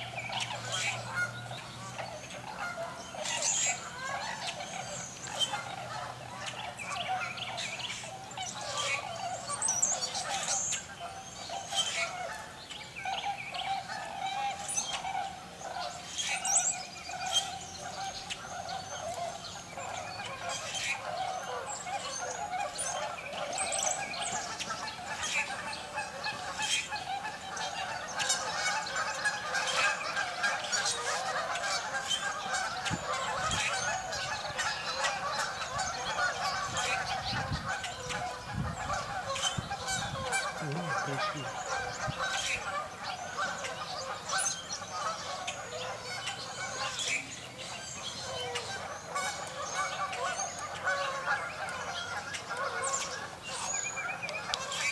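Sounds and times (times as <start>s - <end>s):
small birds calling: 0.0s - 54.9s
swans and geese honking: 0.0s - 54.9s.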